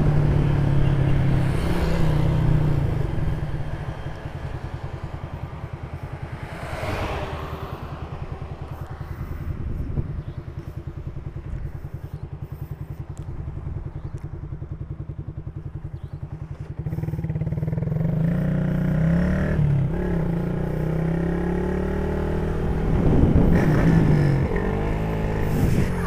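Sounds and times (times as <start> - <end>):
motorcycle engine throbbing: 0.0 - 26.0.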